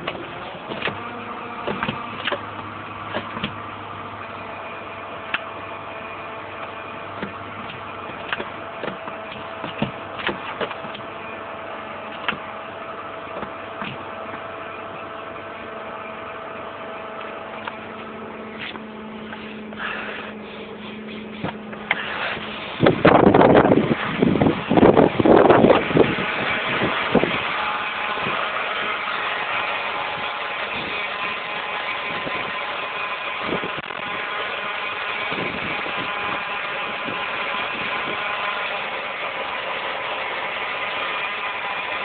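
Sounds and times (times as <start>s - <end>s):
car engine hum: 0.0s - 42.0s.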